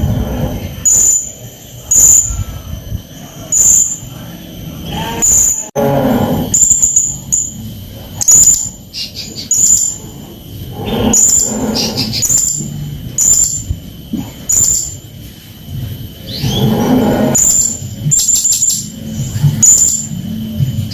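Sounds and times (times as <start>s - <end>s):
rough lower parrot sounds: 0.0s - 15.0s, 16.2s - 20.2s.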